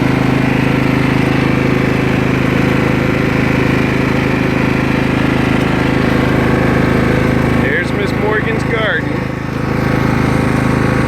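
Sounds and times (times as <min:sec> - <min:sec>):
riding lawn mower engine: 0:00.0 - 0:11.0.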